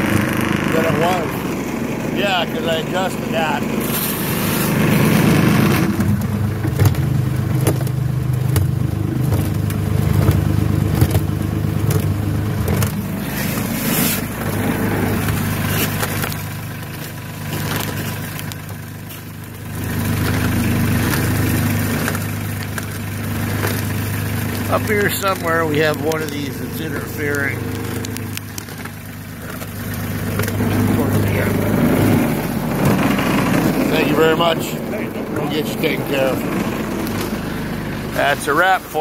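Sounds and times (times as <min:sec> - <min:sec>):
rock salt rattling and scraping: 0:00.0 - 0:39.0
salt spreader drive humming: 0:00.0 - 0:39.0.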